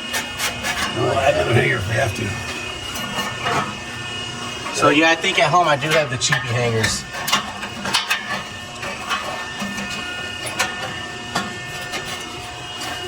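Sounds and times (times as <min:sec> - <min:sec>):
mechanical hum with high whine: 0:00.0 - 0:13.0.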